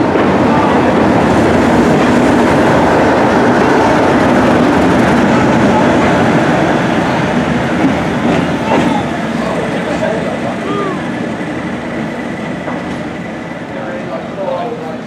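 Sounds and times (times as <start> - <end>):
diesel locomotive engine running: 0.0 - 15.0
train coaches rolling by: 0.0 - 15.0.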